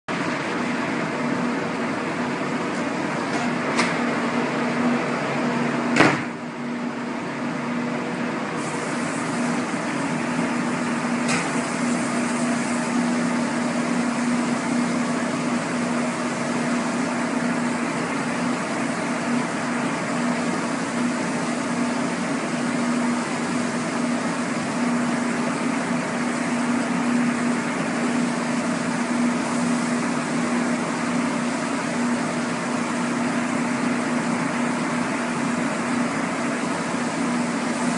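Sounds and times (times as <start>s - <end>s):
extraction fan humming: 0.1s - 37.9s.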